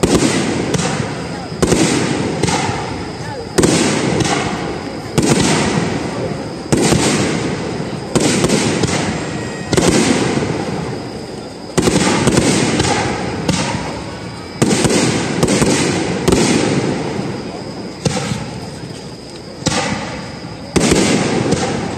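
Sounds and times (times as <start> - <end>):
sharp firework cracks: 0.0 - 10.7, 11.7 - 17.4, 18.0 - 21.9
fireworks bursting with crackle: 0.0 - 21.9.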